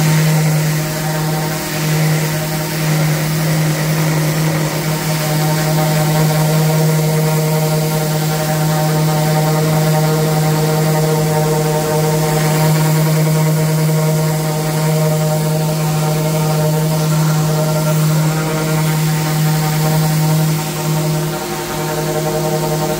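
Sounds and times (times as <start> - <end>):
orbital sander running: 0.0 - 22.9.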